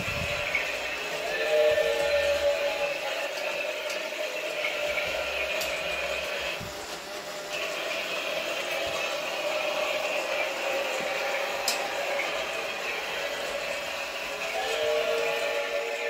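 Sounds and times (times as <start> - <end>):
toy train motor whirring: 0.0 - 16.0
toy train wheels rattling: 0.0 - 16.0.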